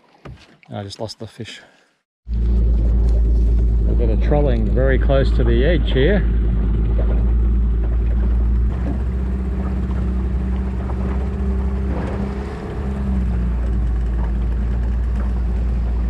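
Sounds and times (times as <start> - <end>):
water rushing along hull: 0.0 - 16.0
wind: 0.0 - 16.0
boat motor humming: 2.3 - 16.0.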